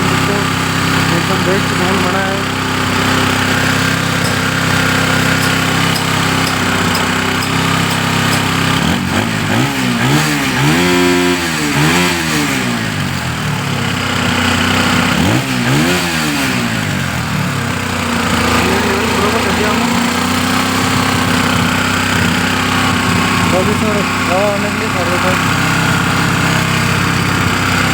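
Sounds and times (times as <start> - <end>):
engine revving: 0.0 - 27.9
motorcycle engine idling: 0.0 - 27.9.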